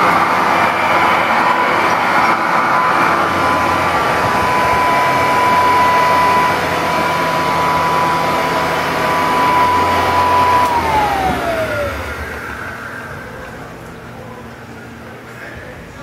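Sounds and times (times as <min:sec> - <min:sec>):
vacuum cleaner running: 0:00.0 - 0:13.8.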